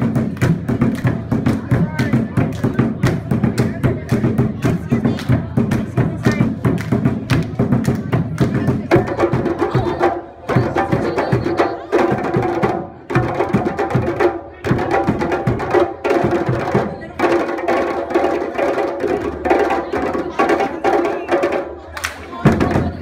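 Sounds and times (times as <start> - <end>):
djembe hand drums: 0.0 - 23.0.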